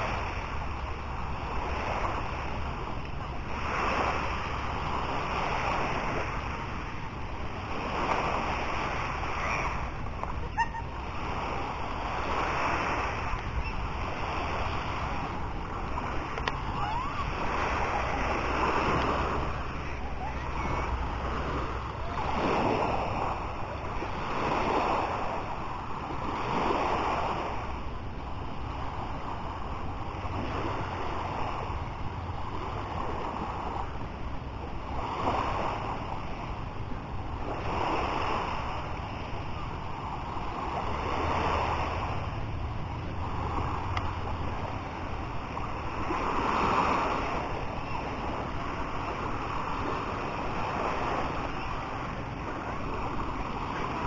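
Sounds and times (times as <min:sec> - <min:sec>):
waves washing onto beach: 0:00.0 - 0:54.0.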